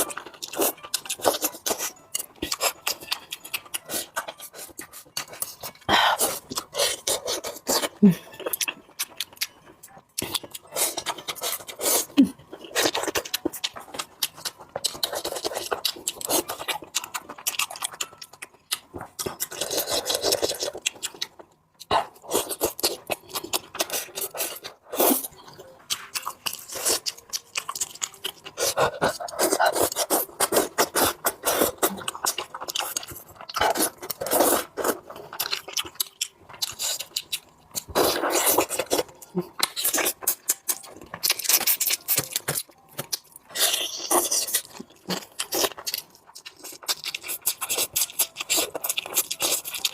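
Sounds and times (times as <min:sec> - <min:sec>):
chewing: 0:00.0 - 0:49.9.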